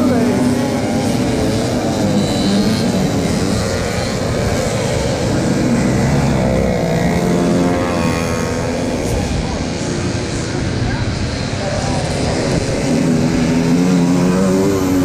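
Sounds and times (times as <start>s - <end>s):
two-stroke mopeds revving: 0.0s - 15.0s.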